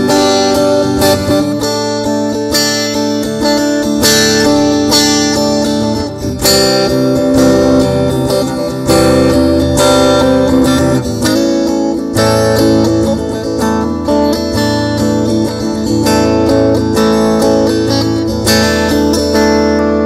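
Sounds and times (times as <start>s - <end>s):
guitar strumming clean chords: 0.0s - 20.0s.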